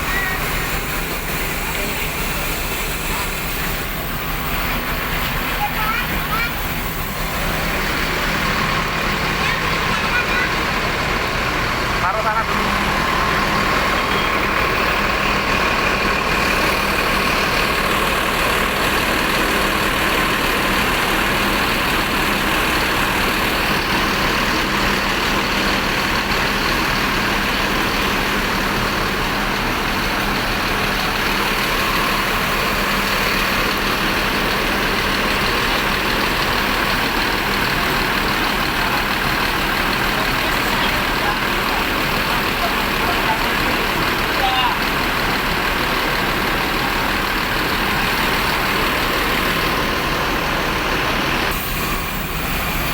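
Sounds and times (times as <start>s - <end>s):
bus engine droning: 0.0s - 52.9s.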